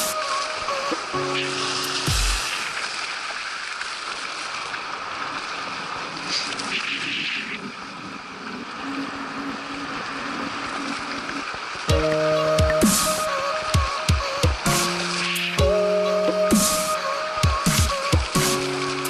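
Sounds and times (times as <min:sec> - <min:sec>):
water rushing: 0:00.0 - 0:19.0
wind hiss: 0:00.0 - 0:19.0.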